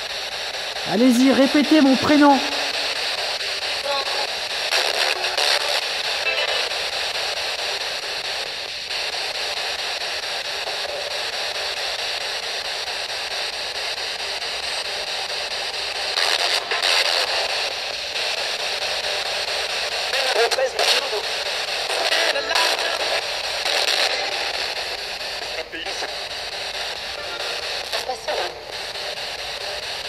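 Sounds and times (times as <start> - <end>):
radio static hiss: 0.0 - 30.0.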